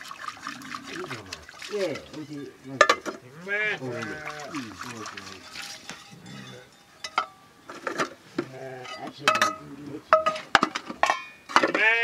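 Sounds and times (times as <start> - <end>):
metal pots clanking: 0.8 - 3.2, 3.8 - 11.9.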